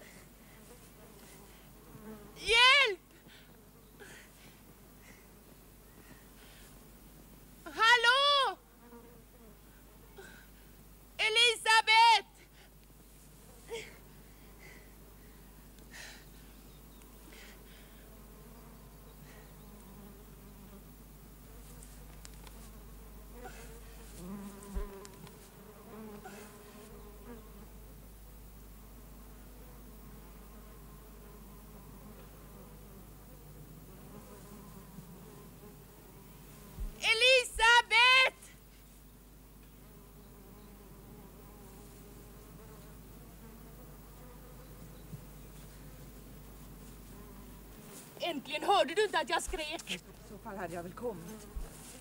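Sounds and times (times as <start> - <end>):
insect buzzing: 0.0 - 6.7, 13.2 - 52.0.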